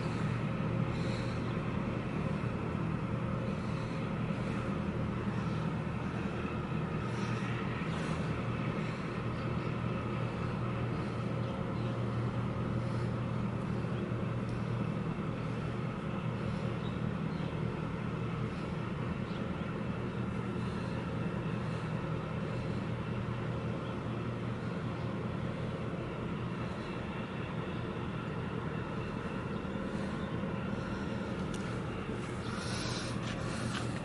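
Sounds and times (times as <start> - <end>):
low drone of diesel engines: 0.0 - 34.0.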